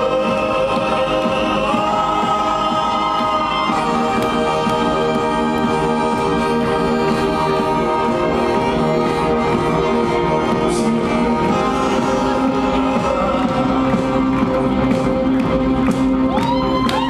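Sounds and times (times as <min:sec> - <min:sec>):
electric bass: 0:00.0 - 0:17.0.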